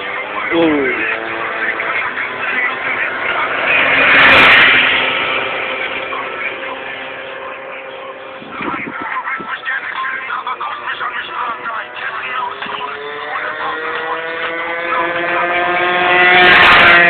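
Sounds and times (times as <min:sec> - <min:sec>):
motor vehicle passing by: 0:00.0 - 0:09.0, 0:10.6 - 0:17.0.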